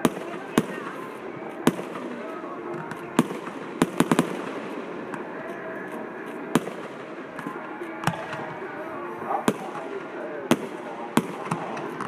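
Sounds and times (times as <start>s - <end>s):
fireworks bursting in bangs: 0.0s - 5.4s, 6.1s - 12.0s.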